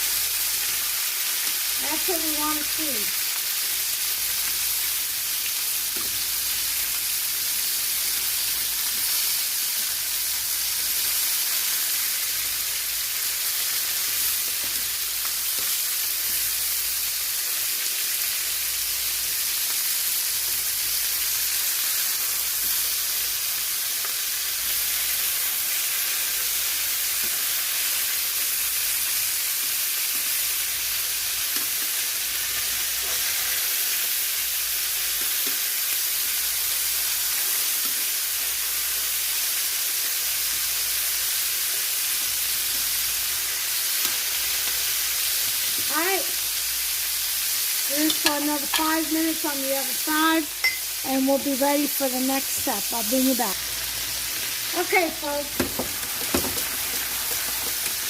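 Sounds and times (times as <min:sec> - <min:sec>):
chicken sizzling in a pan: 0:00.0 - 0:58.0.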